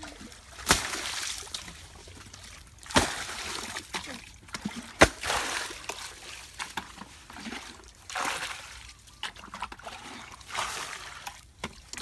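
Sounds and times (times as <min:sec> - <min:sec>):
bucket of water splashing: 0:00.0 - 0:12.0
water trickling and sloshing: 0:00.0 - 0:12.0.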